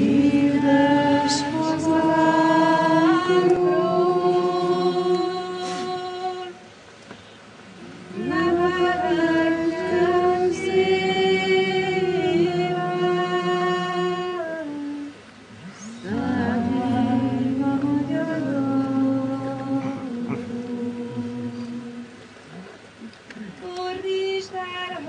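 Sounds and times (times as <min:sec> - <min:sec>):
woman singing folk song: 0:00.0 - 0:06.7, 0:08.1 - 0:15.2, 0:16.1 - 0:22.2, 0:23.4 - 0:25.0.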